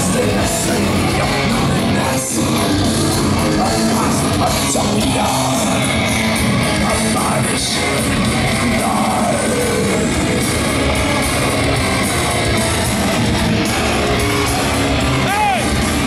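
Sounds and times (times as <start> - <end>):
heavy metal band playing live: 0.0 - 16.0.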